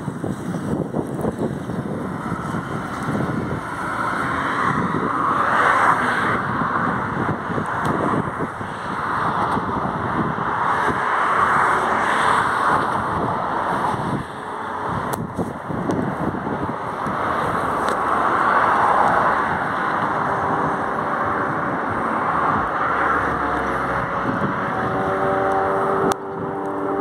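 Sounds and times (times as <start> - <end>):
passing road traffic: 0.0 - 27.0
wind buffeting microphone: 0.0 - 27.0.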